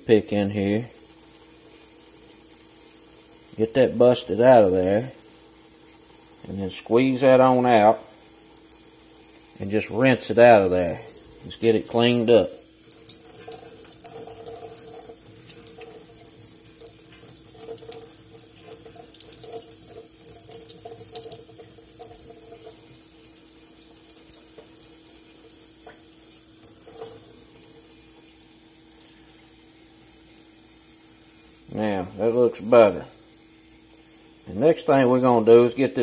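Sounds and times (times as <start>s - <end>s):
faint steady hum: 0.0s - 36.0s
faucet water splashing into sink: 0.7s - 35.2s.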